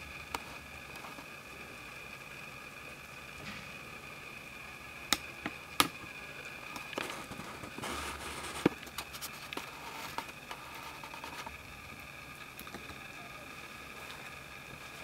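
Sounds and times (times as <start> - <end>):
faint high-pitched hum: 0.0 - 15.0.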